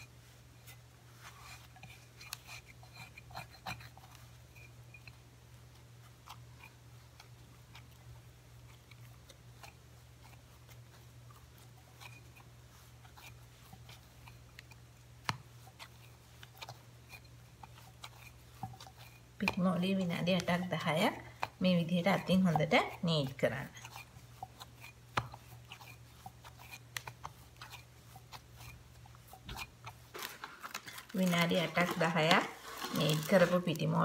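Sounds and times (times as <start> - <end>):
dough squelching as it is kneaded: 0.0 - 34.0.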